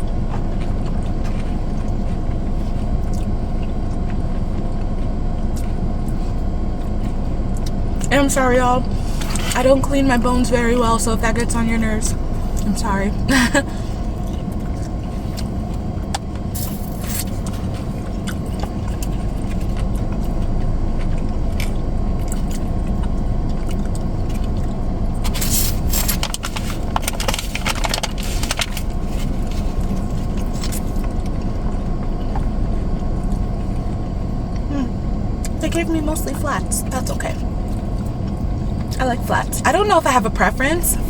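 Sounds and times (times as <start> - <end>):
chewing crispy chicken: 0.0 - 8.2, 13.3 - 39.0.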